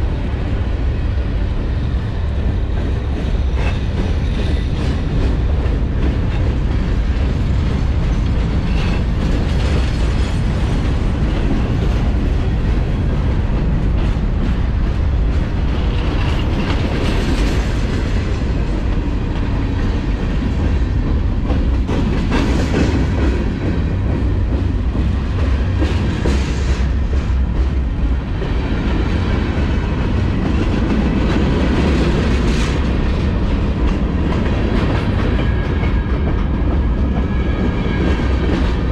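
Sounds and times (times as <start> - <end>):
freight train rumble: 0.0 - 38.9
train wheel clacks: 0.0 - 38.9.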